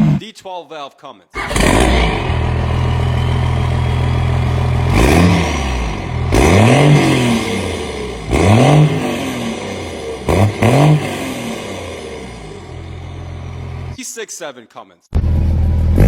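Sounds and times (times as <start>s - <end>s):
diesel engine idling and revving: 1.4s - 14.0s, 15.2s - 16.0s.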